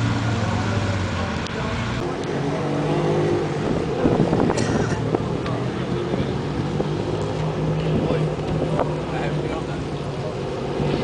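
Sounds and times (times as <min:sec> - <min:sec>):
rally car engine: 0:00.0 - 0:11.0.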